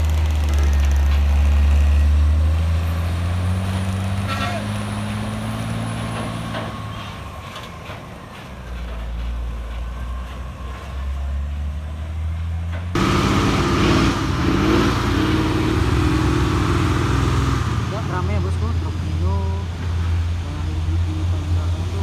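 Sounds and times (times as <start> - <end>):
diesel trucks labouring uphill: 0.0 - 22.0.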